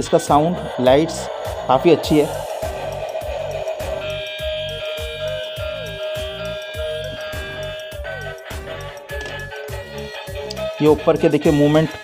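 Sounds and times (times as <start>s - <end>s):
toy train electronic music: 0.0s - 12.0s.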